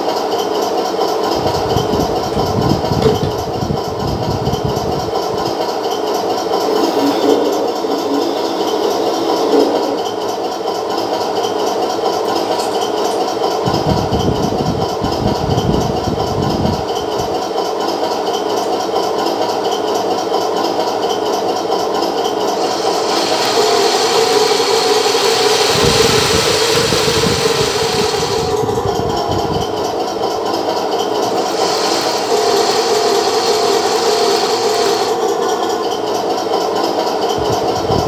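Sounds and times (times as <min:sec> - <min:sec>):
hiss and rattle of toy tank tracks: 0:00.0 - 0:38.0.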